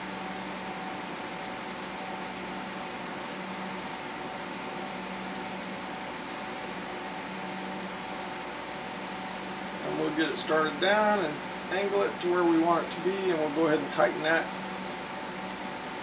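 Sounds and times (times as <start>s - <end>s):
steady mechanical hum with hiss: 0.0s - 16.0s.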